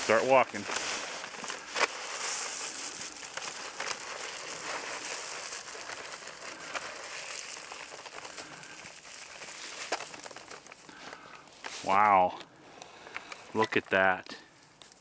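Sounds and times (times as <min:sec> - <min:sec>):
bag crinkling: 0:00.0 - 0:12.2
corn pouring onto snow: 0:00.0 - 0:12.3.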